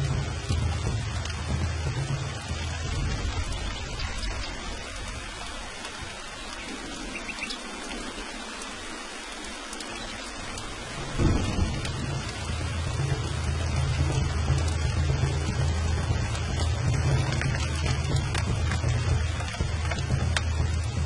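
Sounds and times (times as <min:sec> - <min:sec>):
steady rain hissing: 0:00.0 - 0:21.0
thunder rumbling: 0:00.0 - 0:21.0.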